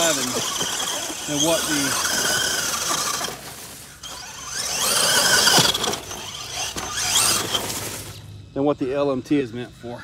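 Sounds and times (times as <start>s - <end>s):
toy truck motor whining: 0.0s - 8.2s.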